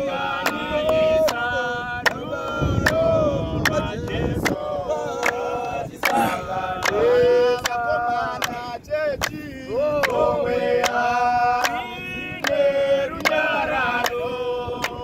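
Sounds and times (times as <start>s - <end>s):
men singing in harmony: 0.0s - 15.0s
steady hand clap: 0.3s - 15.0s.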